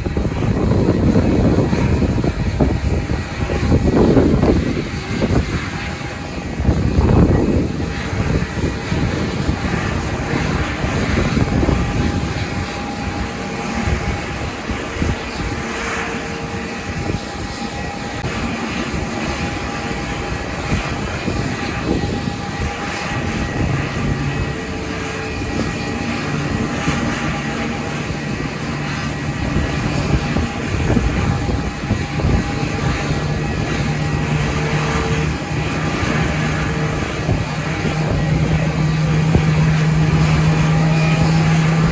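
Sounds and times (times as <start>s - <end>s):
jet engines rumbling: 0.0s - 41.9s
wind buffeting microphone: 0.0s - 41.9s.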